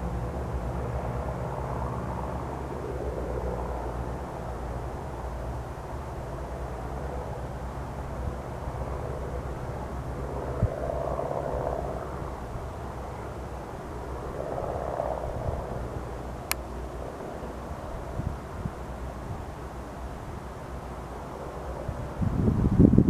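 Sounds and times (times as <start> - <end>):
plane engine droning: 0.0 - 23.0.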